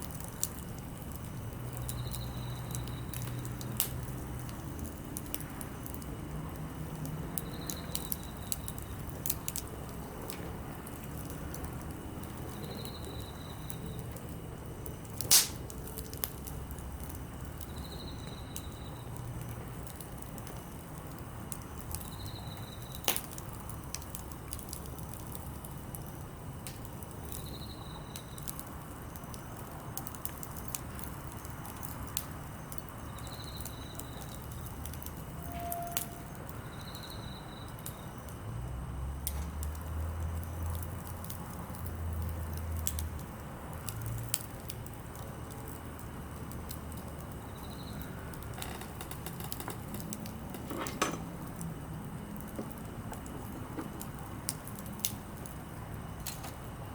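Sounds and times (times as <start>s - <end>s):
fire sharp pops: 0.0s - 37.1s, 39.2s - 56.9s
campfire crackling: 0.0s - 56.9s.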